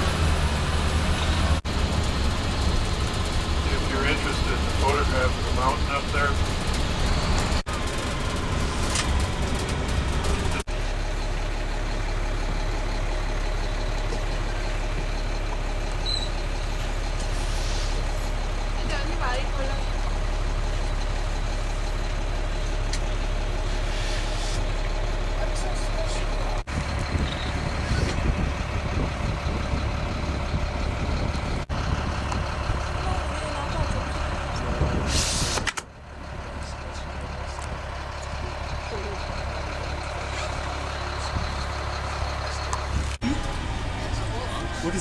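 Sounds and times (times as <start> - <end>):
bus engine humming: 0.0 - 45.0
road noise: 0.0 - 45.0.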